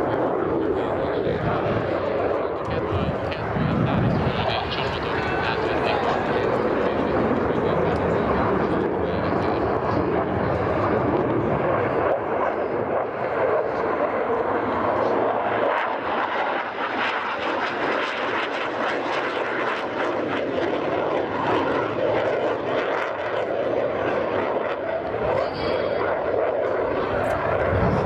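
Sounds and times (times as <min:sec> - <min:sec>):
jet engine rushing overhead: 0:00.0 - 0:28.0.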